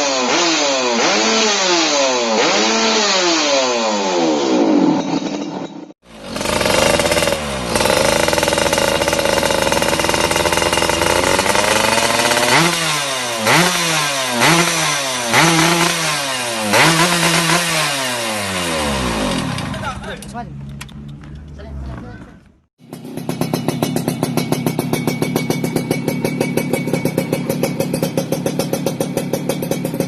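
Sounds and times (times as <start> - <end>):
two-stroke engine revving: 0.0 - 5.2, 6.0 - 20.3, 22.8 - 30.0.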